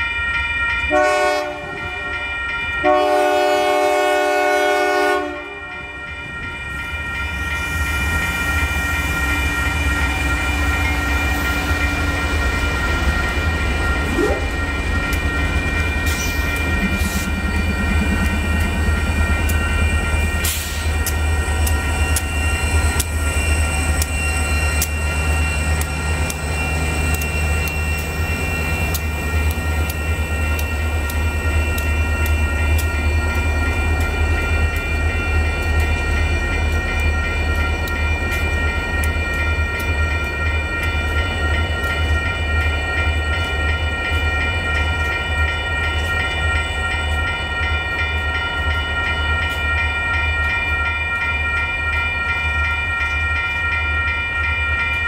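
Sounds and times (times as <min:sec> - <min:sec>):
crossing bell ringing: 0:00.0 - 0:55.0
freight train rumbling past: 0:00.0 - 0:55.0.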